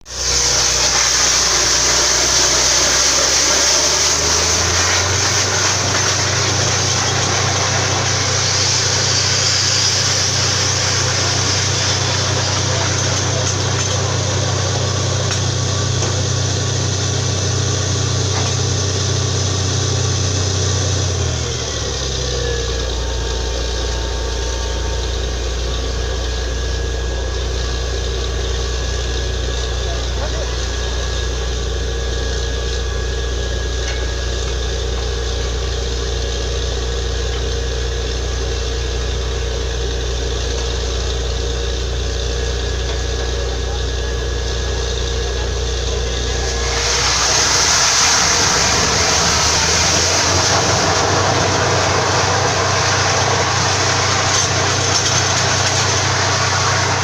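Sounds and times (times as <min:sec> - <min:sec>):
drilling rig engine humming: 0:00.0 - 0:57.0.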